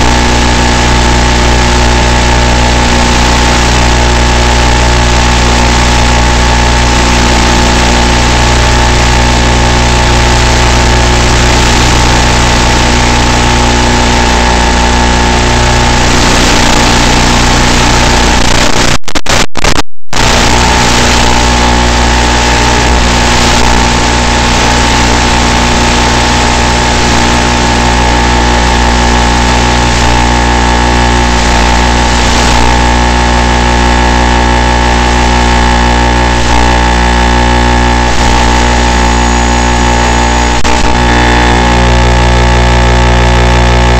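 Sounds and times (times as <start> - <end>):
electronic buzz with fixed tones: 0.0 - 43.9.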